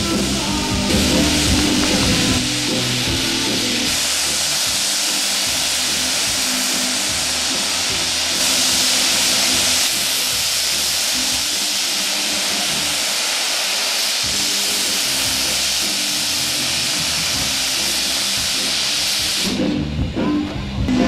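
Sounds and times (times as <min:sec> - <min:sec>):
steam locomotive blowing off steam: 0:00.0 - 0:21.0.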